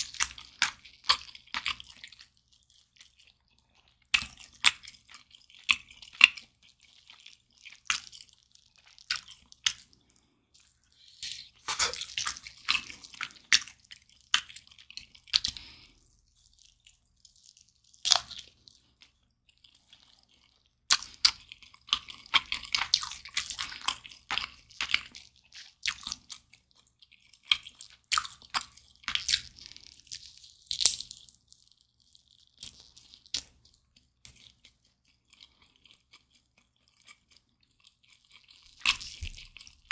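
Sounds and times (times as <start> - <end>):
close-miked chewing and biting: 0.0 - 39.9.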